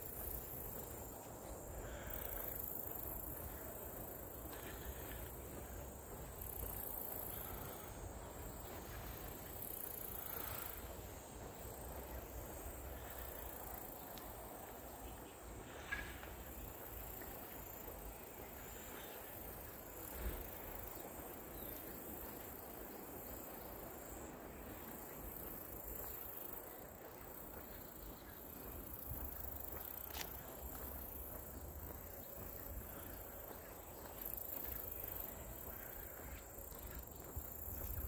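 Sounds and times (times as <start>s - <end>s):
steady high hiss: 0.0s - 38.0s.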